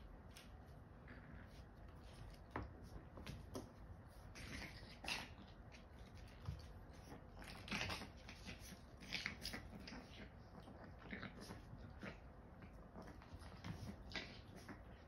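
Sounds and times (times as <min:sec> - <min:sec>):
dogs chewing and scuffling: 0:00.0 - 0:15.0.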